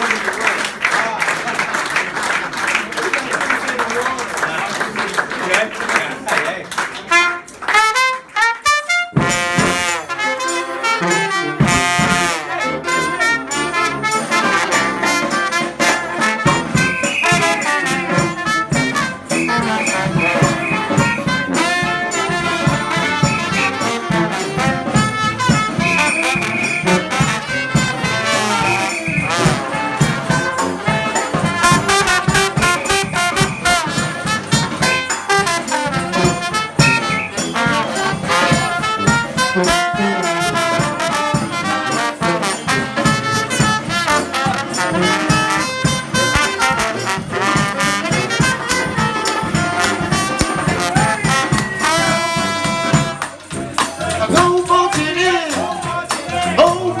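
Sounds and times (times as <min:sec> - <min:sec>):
trumpets and trombones: 0:07.0 - 0:57.0
steady drum beat: 0:09.1 - 0:10.2, 0:11.4 - 0:57.0.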